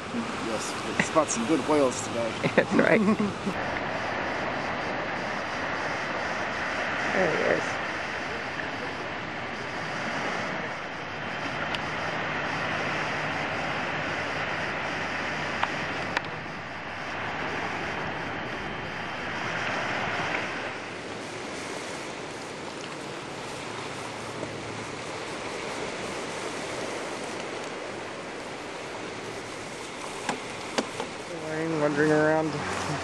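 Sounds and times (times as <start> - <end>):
ocean surf washing on shore: 0.0 - 33.0.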